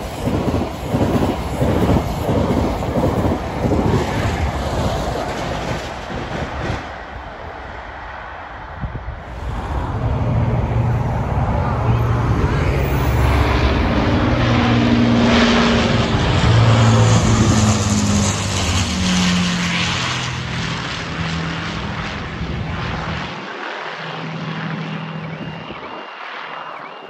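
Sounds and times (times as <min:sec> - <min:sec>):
propeller plane engines overhead: 0:00.0 - 0:27.0.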